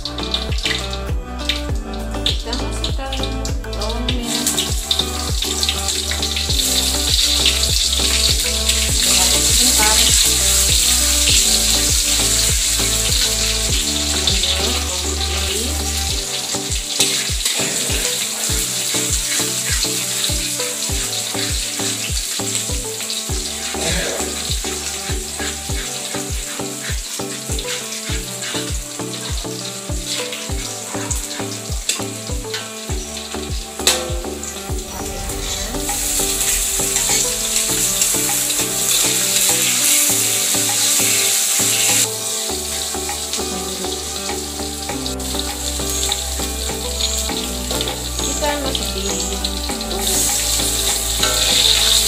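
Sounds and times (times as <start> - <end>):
background music with beat: 0.0 - 52.0
food sizzling in hot oil: 0.0 - 52.0.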